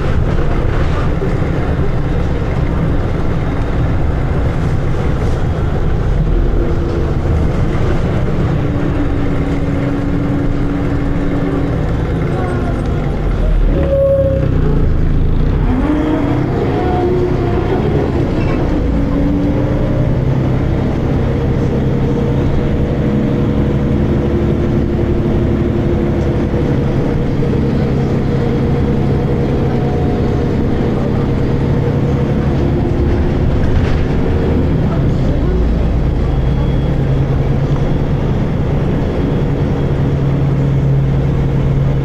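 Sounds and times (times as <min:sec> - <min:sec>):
bus diesel engine and gearbox: 0:00.0 - 0:42.0.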